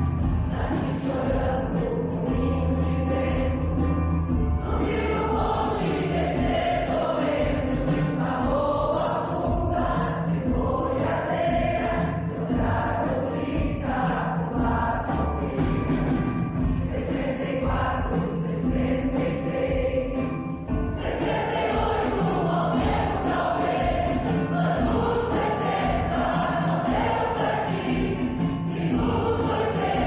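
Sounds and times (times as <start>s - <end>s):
choir singing with accompaniment: 0.0s - 30.0s
high jingling beat: 0.0s - 30.0s.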